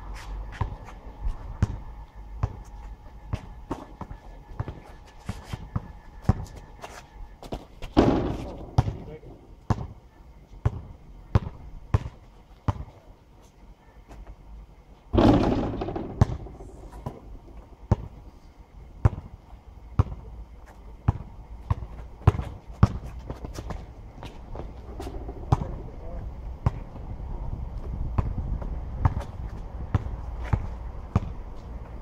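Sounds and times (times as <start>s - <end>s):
basketball bouncing on asphalt: 0.5s - 0.9s, 1.6s - 10.0s, 10.6s - 13.0s, 15.1s - 18.2s, 19.0s - 25.9s, 26.6s - 27.1s, 27.8s - 32.0s.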